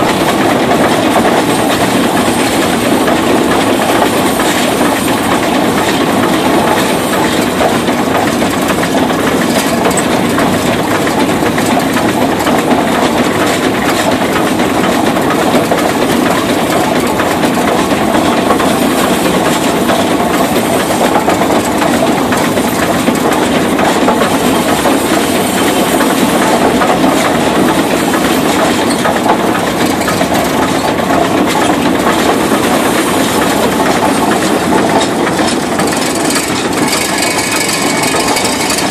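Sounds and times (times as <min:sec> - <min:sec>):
steam traction engine clatter: 0:00.0 - 0:38.9.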